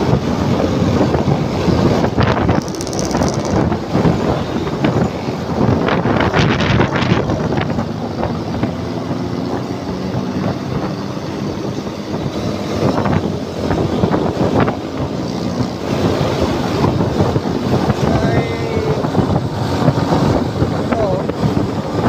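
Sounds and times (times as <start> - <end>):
scooter engine cruising: 0.0 - 18.5
wind buffeting microphone: 0.0 - 22.0.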